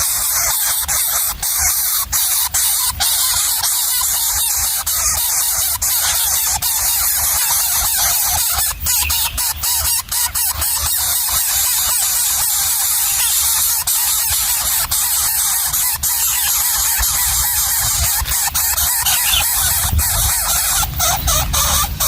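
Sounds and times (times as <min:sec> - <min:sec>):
nestling birds begging: 0:00.0 - 0:22.0.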